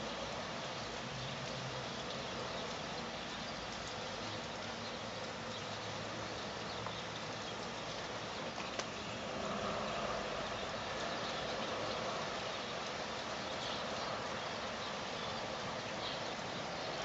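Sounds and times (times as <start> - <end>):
rain drop ticks: 0.0 - 17.0
steady rain hiss: 0.0 - 17.0.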